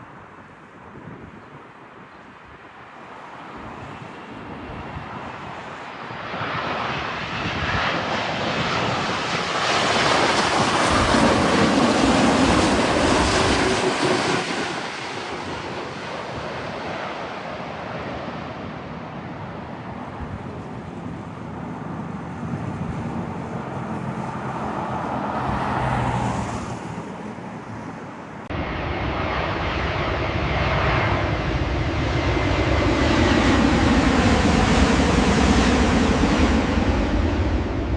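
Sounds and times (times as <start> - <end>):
jet airliner passing by: 0.0 - 37.9.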